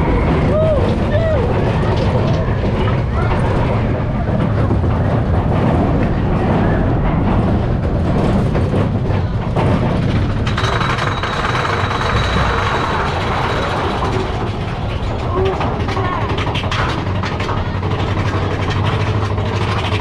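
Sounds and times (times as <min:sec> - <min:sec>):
roller coaster rumble and rattle: 0:00.0 - 0:20.0.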